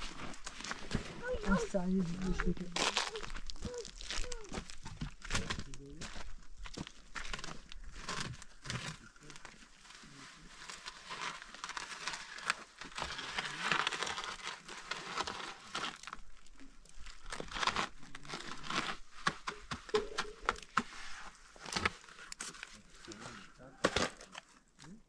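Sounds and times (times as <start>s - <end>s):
crinkling and rustling handling: 0.0s - 25.0s.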